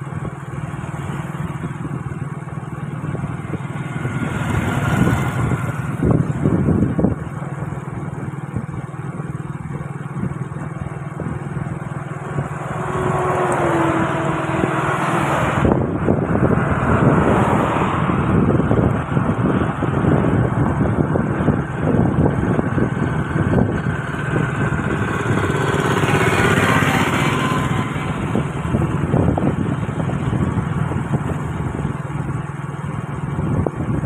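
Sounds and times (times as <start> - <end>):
bus passing: 0.0 - 8.4, 9.4 - 34.0
vehicle engine road and wind noise: 0.0 - 34.0.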